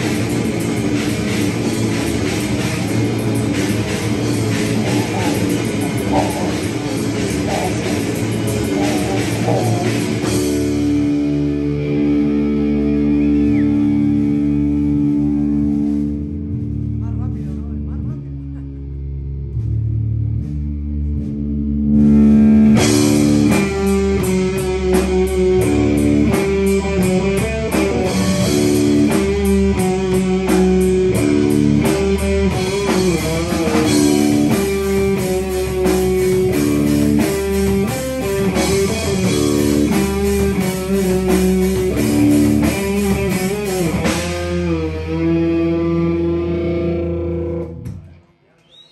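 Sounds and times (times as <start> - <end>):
drums and cymbals: 0.0 - 17.4, 19.6 - 45.2
electric guitar: 0.0 - 48.3
bass guitar: 0.0 - 48.5.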